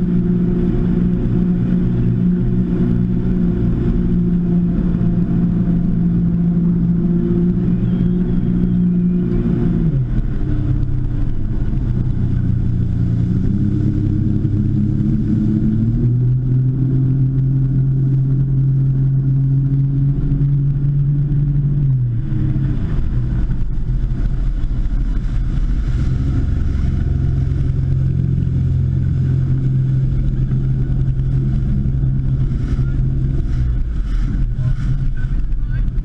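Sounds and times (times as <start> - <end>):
boat engine running at speed: 0.0 - 36.0
rush of wind and water: 0.0 - 36.0.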